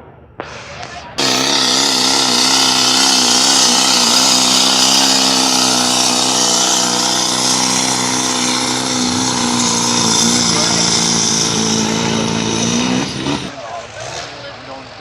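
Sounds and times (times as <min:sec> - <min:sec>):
truck engine at high revs: 0:01.2 - 0:14.8.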